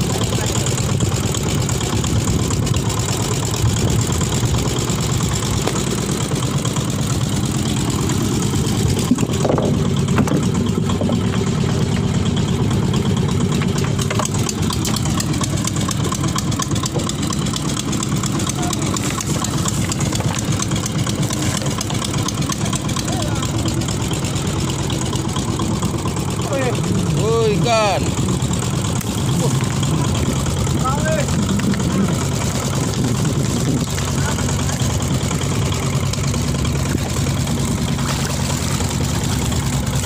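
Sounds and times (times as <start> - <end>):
boat engine idling: 0.0 - 40.0.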